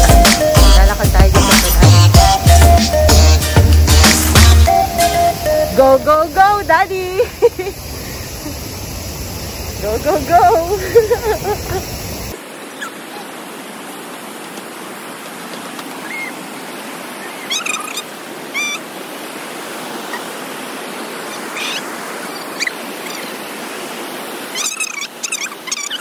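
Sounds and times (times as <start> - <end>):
river rushing over rocks: 4.2 - 26.0.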